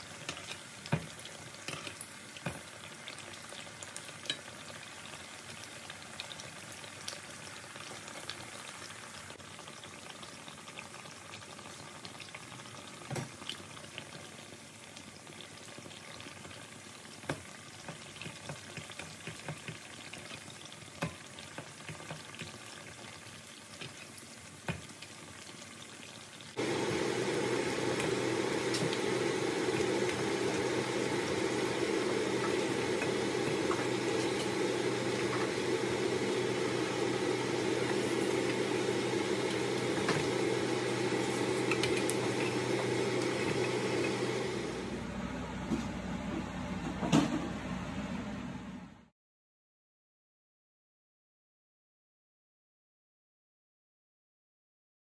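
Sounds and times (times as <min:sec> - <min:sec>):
patties sizzling in oil: 0:00.0 - 0:45.0.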